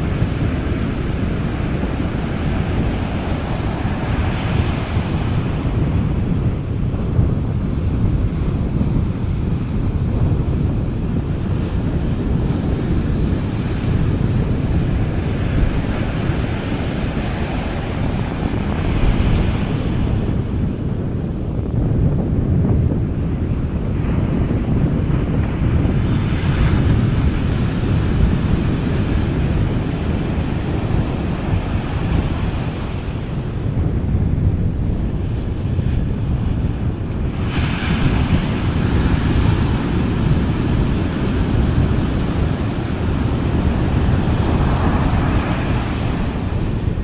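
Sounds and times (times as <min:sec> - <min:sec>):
waves washing in: 0:00.0 - 0:20.6, 0:23.4 - 0:47.0
surf rumbling: 0:00.0 - 0:47.0
wind on microphone: 0:00.0 - 0:47.0.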